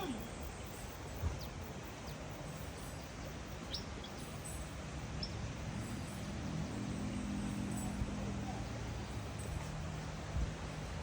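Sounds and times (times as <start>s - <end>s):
hiss of background noise: 0.0s - 11.0s.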